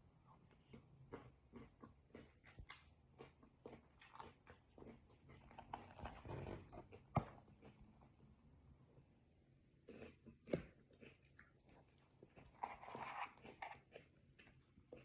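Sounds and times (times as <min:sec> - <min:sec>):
wet chewing: 0:00.3 - 0:08.2, 0:09.8 - 0:15.0.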